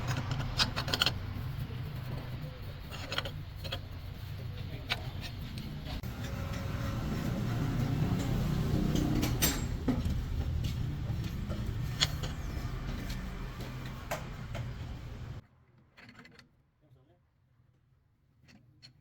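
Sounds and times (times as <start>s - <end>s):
machine rumbling: 0.0s - 15.4s.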